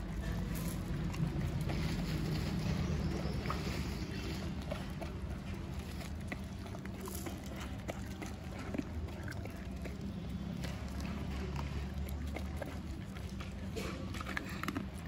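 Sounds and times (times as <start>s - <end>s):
dogs crunching dry kibble: 0.0s - 15.0s.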